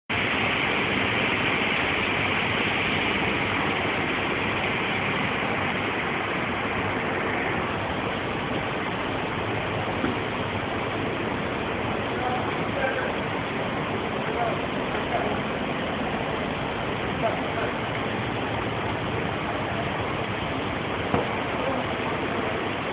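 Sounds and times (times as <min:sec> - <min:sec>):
laundry machinery running: 0:00.1 - 0:22.9.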